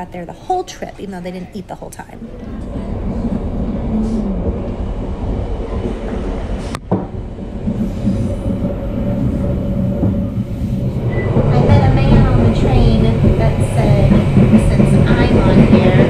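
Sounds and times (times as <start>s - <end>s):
steady hum: 0.0s - 16.0s
train rumbling on track: 2.2s - 16.0s.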